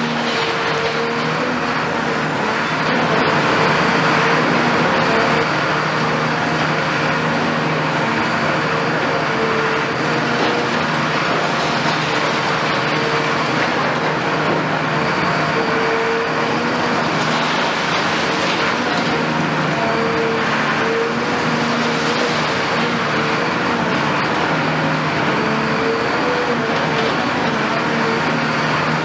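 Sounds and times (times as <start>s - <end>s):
diesel engine running under load: 0.0s - 29.0s
hydraulic whine: 0.0s - 29.0s.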